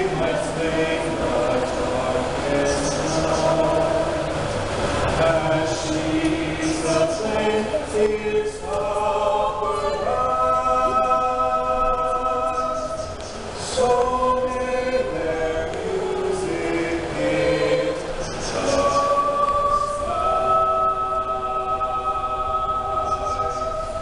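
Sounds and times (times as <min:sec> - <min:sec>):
choir singing in harmony: 0:00.0 - 0:24.0.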